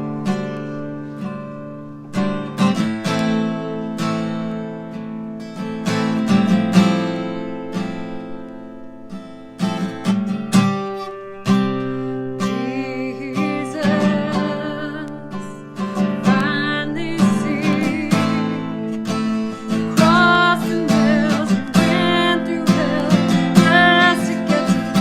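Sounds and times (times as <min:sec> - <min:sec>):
guitar strumming: 0:00.0 - 0:25.0.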